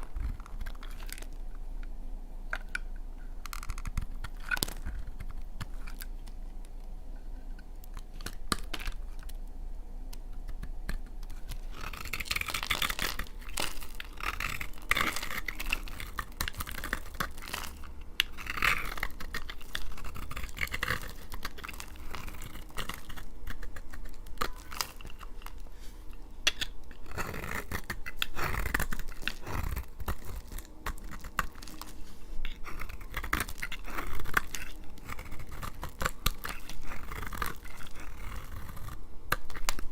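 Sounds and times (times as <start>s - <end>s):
knife crunching through soap: 0.0s - 1.4s, 2.6s - 6.2s, 10.2s - 39.9s.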